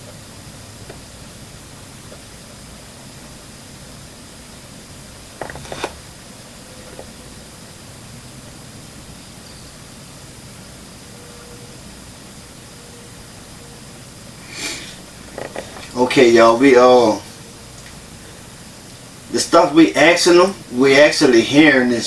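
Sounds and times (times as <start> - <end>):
room hiss: 0.0 - 22.0.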